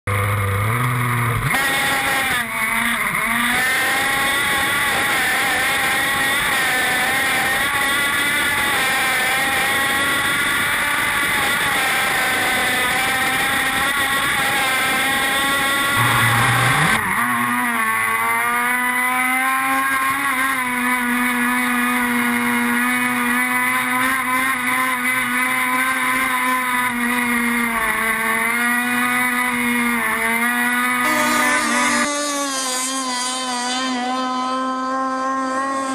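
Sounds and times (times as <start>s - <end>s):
small two-stroke engine racing: 0.1s - 35.9s.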